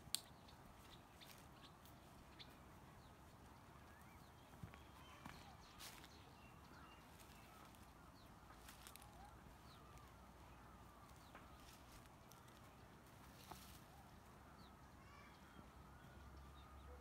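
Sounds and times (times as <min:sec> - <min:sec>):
faint bird chirps: 0:00.2 - 0:12.6, 0:13.4 - 0:17.0.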